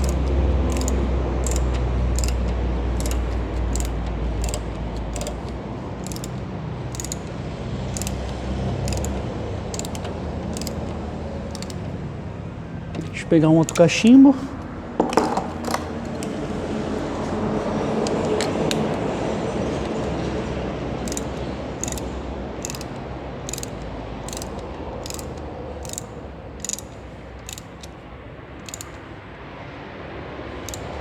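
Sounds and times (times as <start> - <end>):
ratchet wrench clicking: 0.0 - 17.1, 19.7 - 29.3, 30.4 - 31.0.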